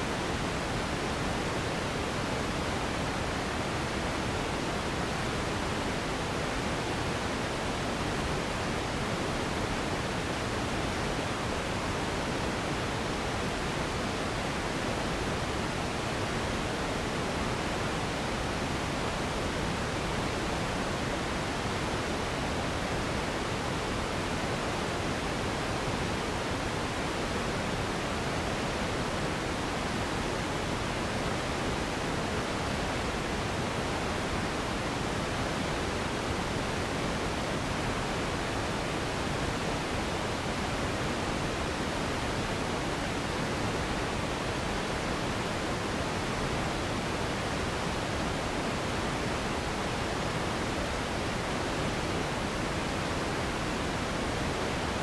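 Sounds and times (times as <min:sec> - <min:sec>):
continuous steady noise: 0:00.0 - 0:55.0.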